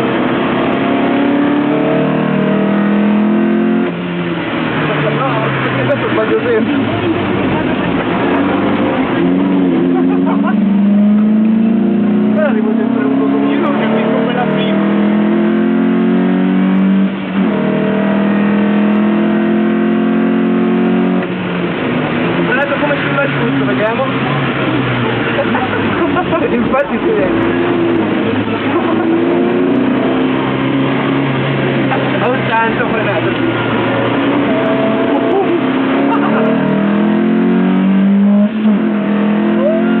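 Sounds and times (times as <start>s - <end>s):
car engine at high revs: 0.0s - 40.0s.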